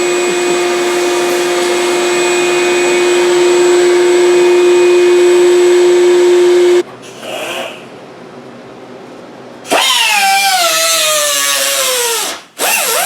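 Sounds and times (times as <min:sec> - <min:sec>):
power tool cutting sheet metal: 0:00.0 - 0:07.8, 0:09.7 - 0:13.0.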